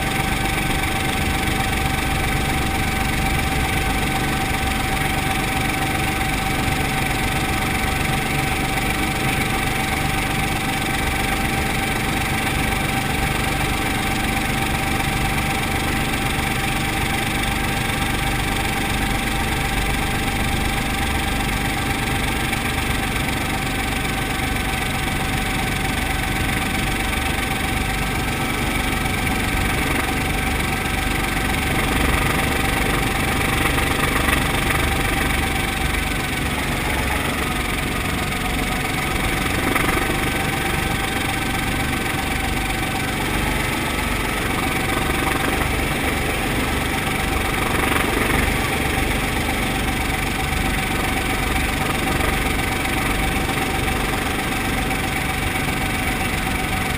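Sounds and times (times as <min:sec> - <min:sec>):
constant whining tone: 0:00.0 - 0:56.9
helicopter engine and rotors: 0:00.0 - 0:56.9.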